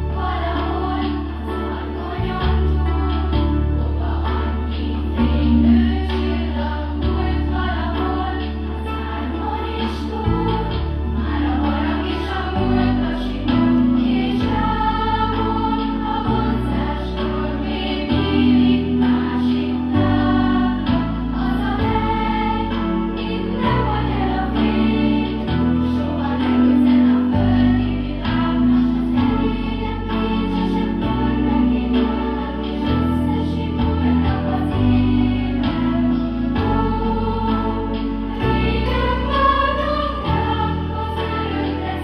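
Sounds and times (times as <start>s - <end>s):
children's choir singing: 0.0s - 42.0s
instrumental accompaniment with bass: 0.0s - 42.0s.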